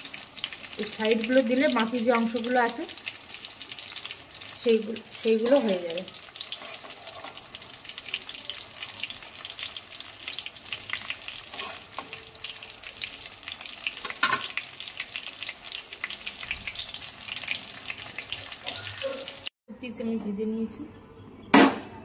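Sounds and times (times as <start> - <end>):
chicken deep-frying in oil: 0.0 - 19.5.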